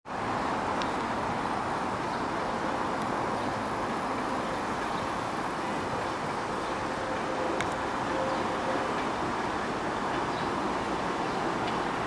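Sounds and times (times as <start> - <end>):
city traffic: 0.0 - 12.0
subway train: 0.1 - 12.0
faint steady tone: 1.0 - 12.0.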